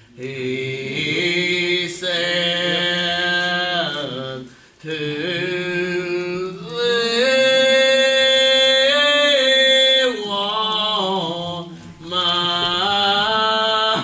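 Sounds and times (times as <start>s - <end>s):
person singing gospel song: 0.0s - 14.0s.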